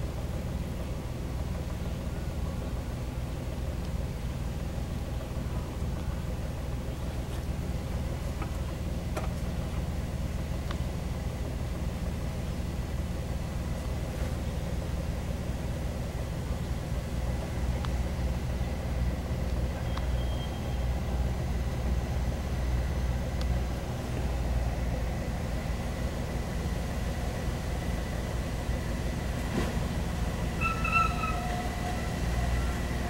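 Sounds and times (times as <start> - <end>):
ferry engine rumbling: 0.0 - 33.0.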